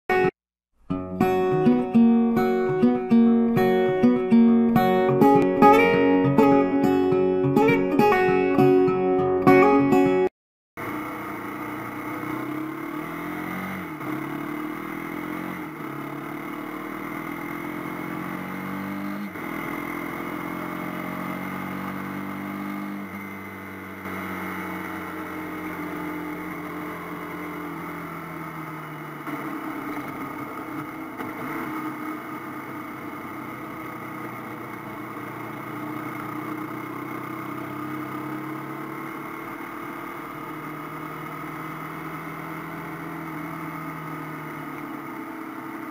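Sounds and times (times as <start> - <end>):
motorcycle engine accelerating: 1.2 - 45.9.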